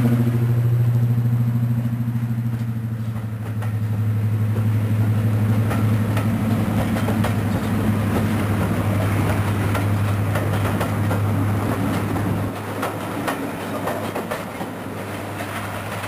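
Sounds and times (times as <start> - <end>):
diesel locomotive droning: 0.0 - 16.0
train wheels clicking over rail joints: 0.0 - 16.0.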